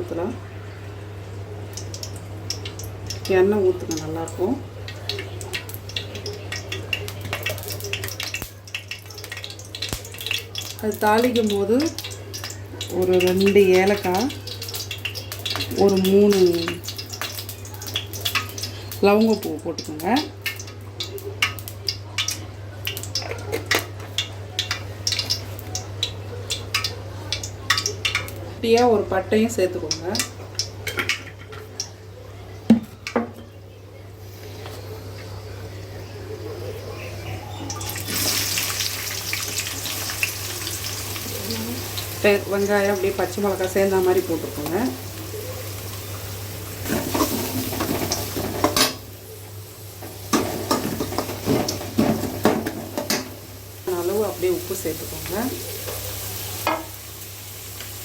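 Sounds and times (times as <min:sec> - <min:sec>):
spices crackling in hot oil: 0:00.1 - 0:32.1, 0:34.2 - 0:58.0.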